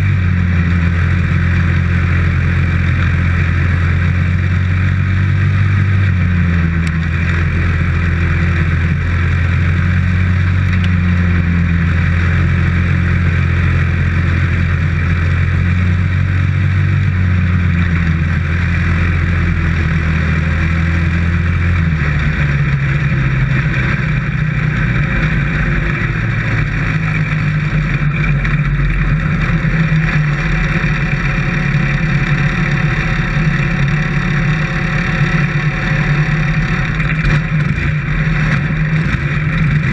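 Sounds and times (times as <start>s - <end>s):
race car engine: 0.0s - 39.9s
wind and chassis noise: 0.0s - 39.9s.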